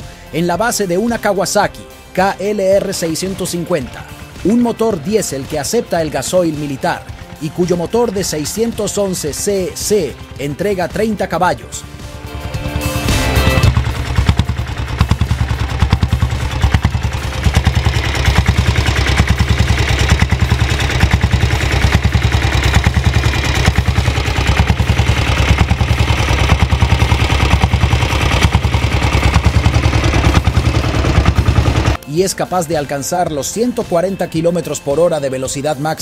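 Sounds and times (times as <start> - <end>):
motorcycle engine idling: 2.4 - 32.0.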